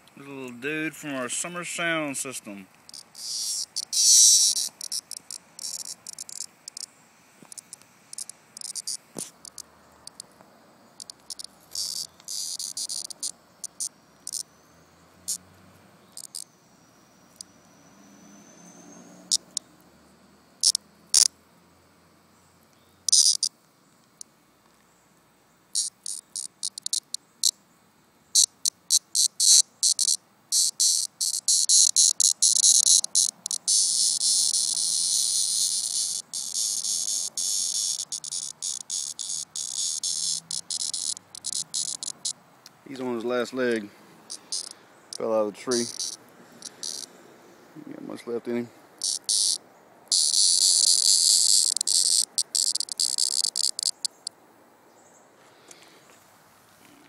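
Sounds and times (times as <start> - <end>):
cicada buzzing: 0.9 - 24.3, 25.2 - 54.4.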